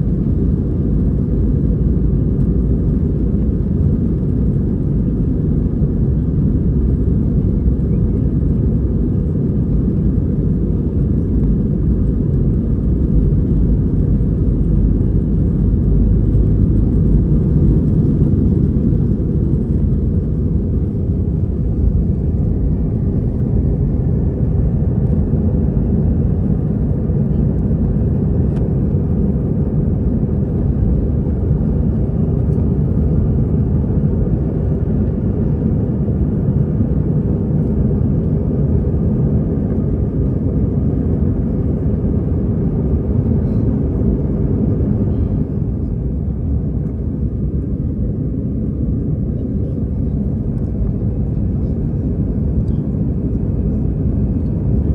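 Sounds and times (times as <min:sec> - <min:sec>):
airflow over fuselage: 0:00.0 - 0:54.9
jet engine cabin noise: 0:00.0 - 0:54.9.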